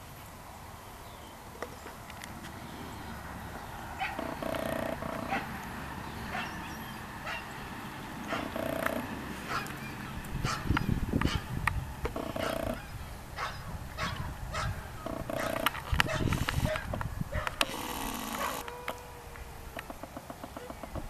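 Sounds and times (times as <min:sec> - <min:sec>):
drawn-out animal calls: 0:01.5 - 0:21.0.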